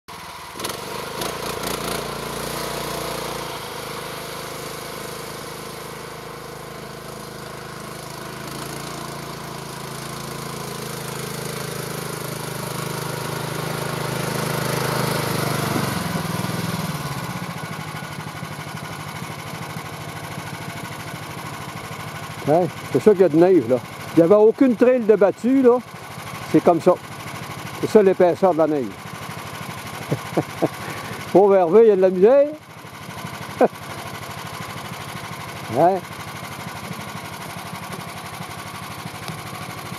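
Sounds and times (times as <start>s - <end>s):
small engine running: 0.1s - 39.9s.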